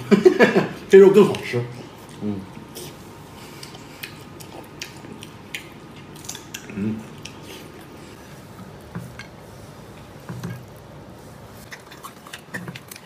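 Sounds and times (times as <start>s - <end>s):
person chewing: 1.3s - 13.0s.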